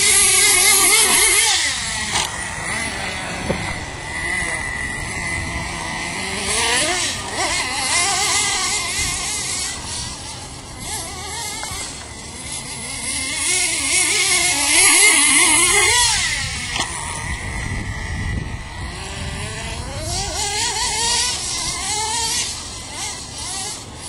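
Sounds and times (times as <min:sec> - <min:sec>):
rc car motor revving: 0:00.0 - 0:24.0.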